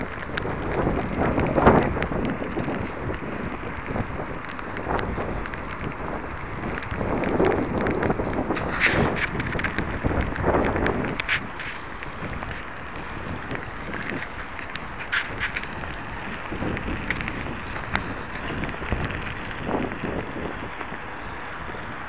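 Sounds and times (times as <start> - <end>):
light clicks and rattles: 0.0 - 21.8
wind on microphone: 0.0 - 22.0.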